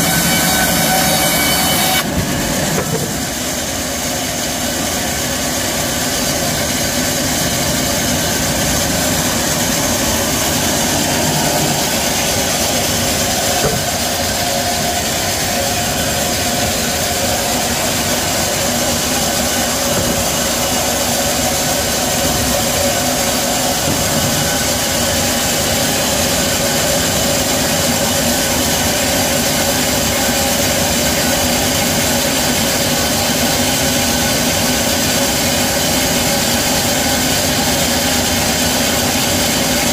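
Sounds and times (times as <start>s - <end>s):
band saw mechanical drone: 0.0s - 39.9s.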